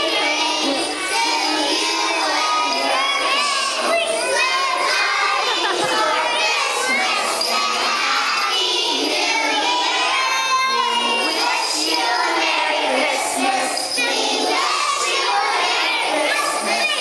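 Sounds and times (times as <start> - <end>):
children singing together: 0.0 - 17.0.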